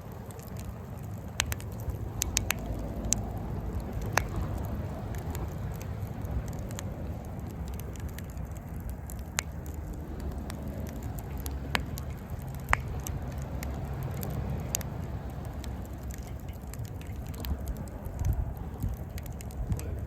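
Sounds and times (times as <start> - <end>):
steady low rumble: 0.0 - 20.0
wood fire crackling: 0.0 - 20.0.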